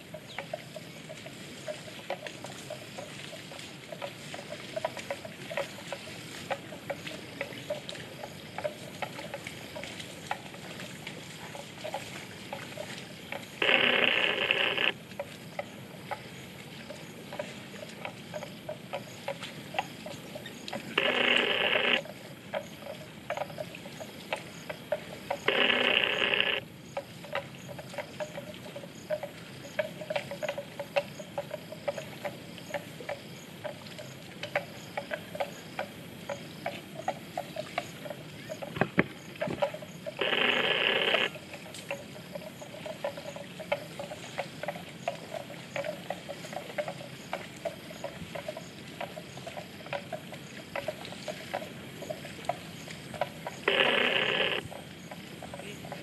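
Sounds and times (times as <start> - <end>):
dense patter of small clicks: 0.0 - 56.0.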